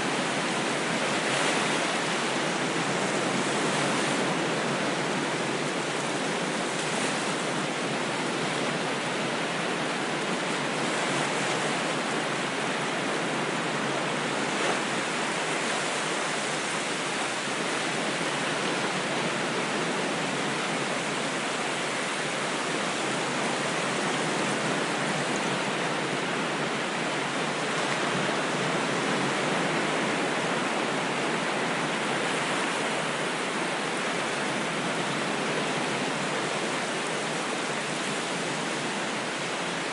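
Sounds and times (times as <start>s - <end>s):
ocean waves rushing: 0.0s - 39.9s.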